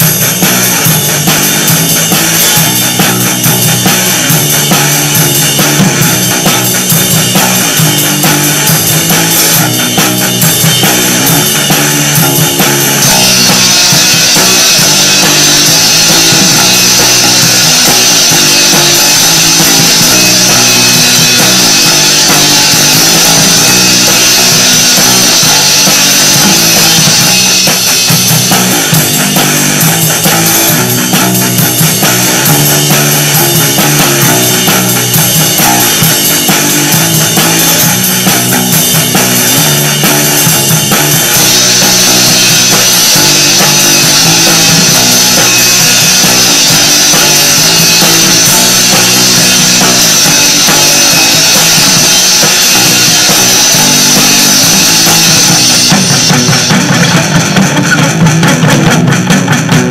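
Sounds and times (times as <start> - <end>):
punk rock band playing: 0.0 - 59.9.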